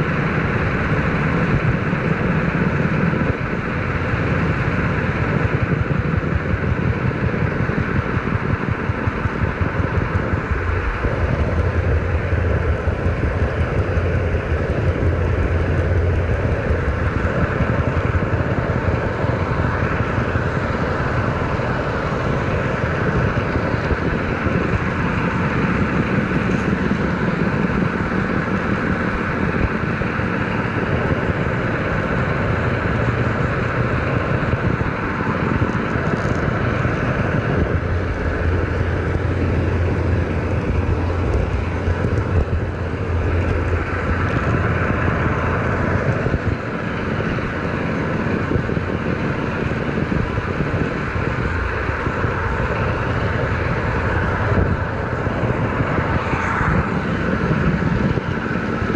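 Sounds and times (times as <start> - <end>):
model train running: 0.0 - 58.9.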